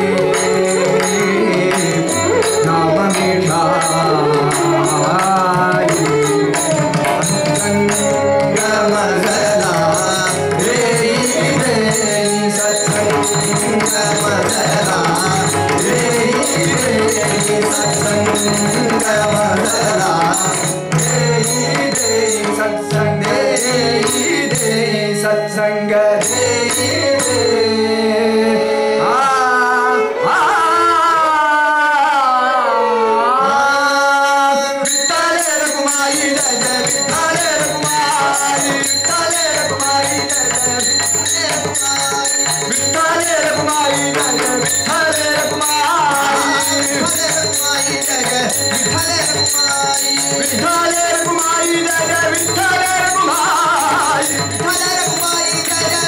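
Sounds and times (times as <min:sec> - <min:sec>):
harmonium drone: 0:00.0 - 0:31.3, 0:32.6 - 0:56.0
tabla rhythm: 0:00.0 - 0:32.2, 0:33.8 - 0:56.0
violin with sliding notes: 0:00.0 - 0:56.0.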